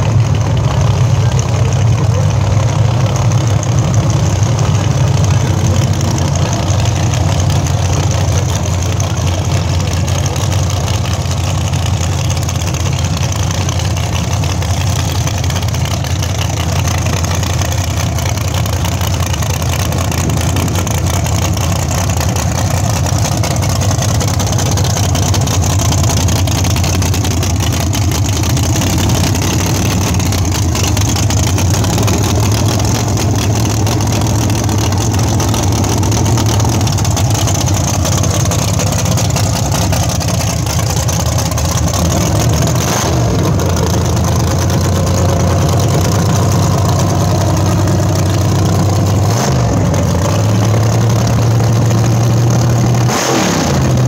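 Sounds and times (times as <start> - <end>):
drag car engine idling: 0.0 - 54.0.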